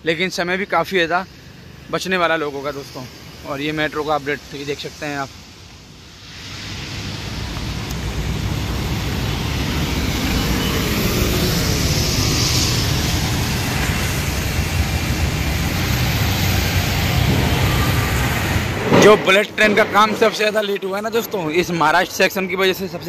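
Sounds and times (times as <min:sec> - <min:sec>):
low engine rumble: 0:01.9 - 0:23.0.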